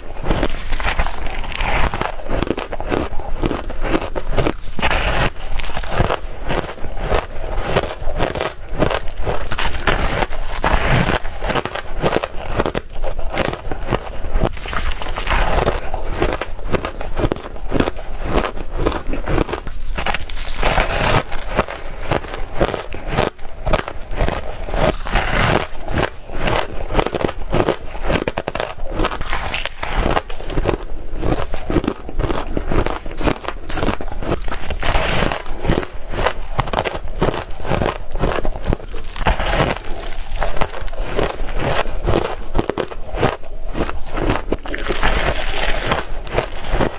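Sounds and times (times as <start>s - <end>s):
chewing ice crunching: 0.0s - 46.9s.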